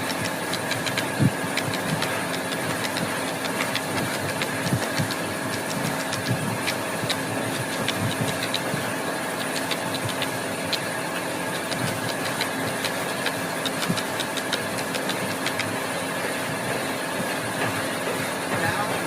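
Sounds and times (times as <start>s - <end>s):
small irregular clicks: 0.0s - 15.8s
machine humming: 0.0s - 19.0s.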